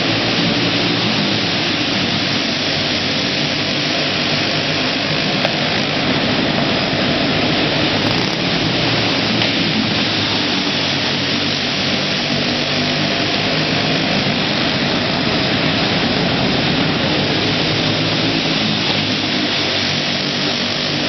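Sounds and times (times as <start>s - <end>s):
go-kart engines racing: 0.0s - 21.0s.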